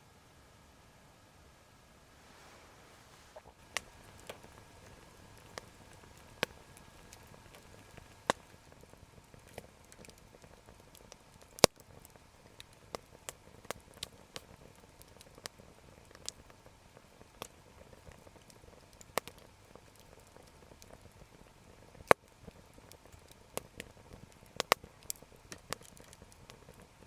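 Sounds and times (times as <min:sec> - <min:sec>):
faint steady hiss: 0:00.0 - 0:27.0
campfire crackling and popping: 0:03.4 - 0:27.0.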